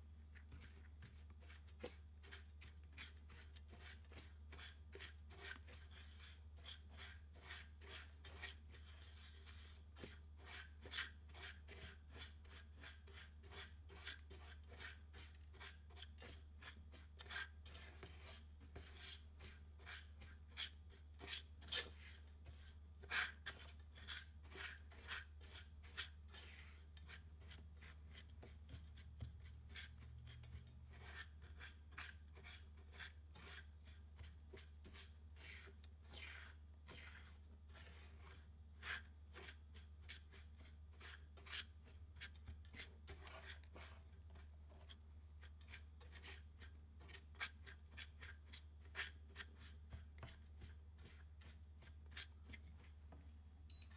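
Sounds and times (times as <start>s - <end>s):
spatula scraping frying pan: 0.5s - 52.9s.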